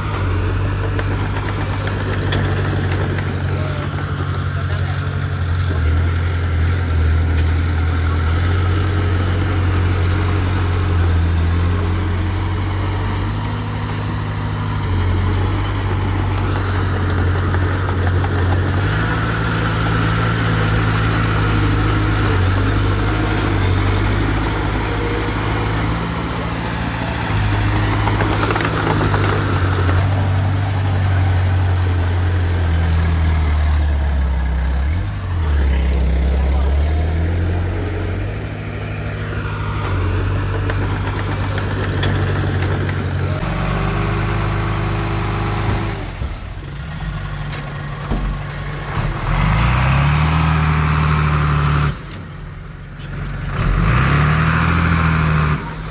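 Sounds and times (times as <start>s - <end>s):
heavy diesel engine droning: 0.0s - 55.9s.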